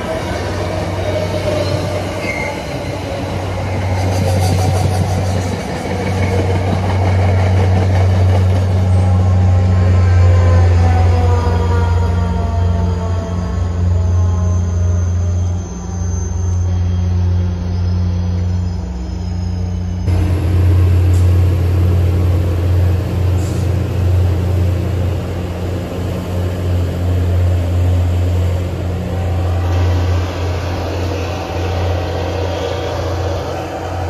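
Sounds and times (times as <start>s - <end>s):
diesel locomotive engine drone: 0.0s - 34.0s
rail and wheel noise: 0.0s - 34.0s.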